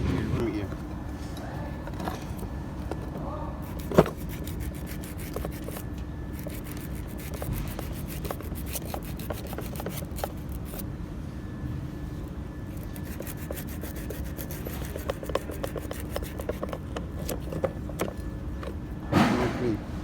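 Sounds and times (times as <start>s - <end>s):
rubbing and scraping metal parts: 0.3s - 10.8s, 12.7s - 19.0s.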